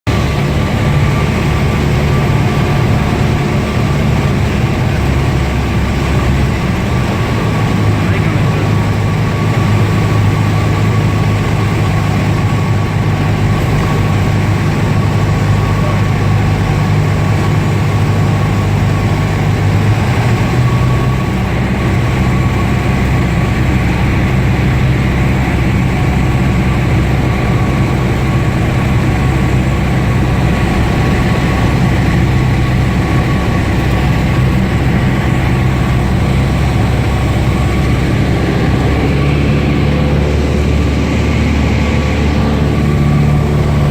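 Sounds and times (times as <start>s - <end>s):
light plane engine droning: 0.1s - 43.9s.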